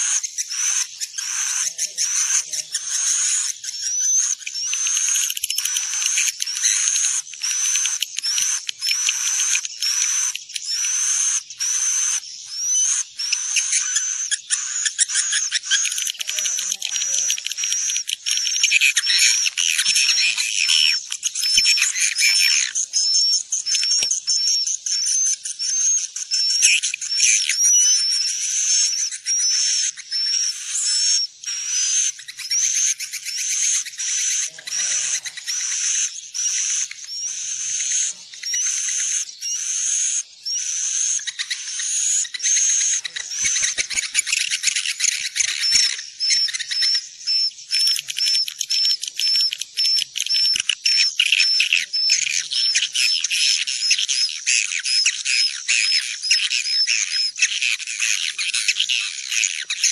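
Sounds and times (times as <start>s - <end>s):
swiftlets twittering: 0.0s - 59.9s.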